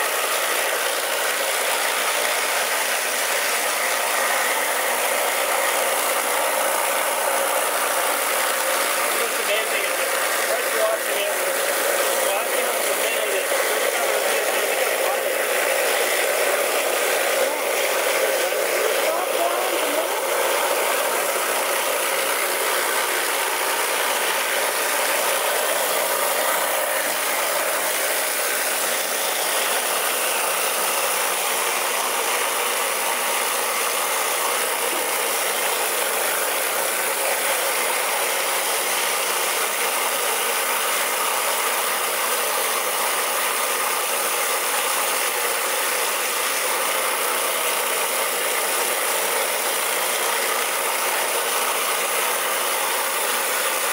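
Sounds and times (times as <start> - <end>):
machine whir: 0.0 - 53.9.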